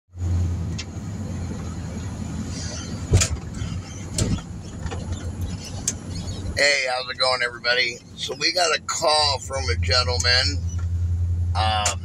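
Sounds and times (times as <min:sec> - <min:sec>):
vehicle engine and road hum: 0:00.1 - 0:12.0.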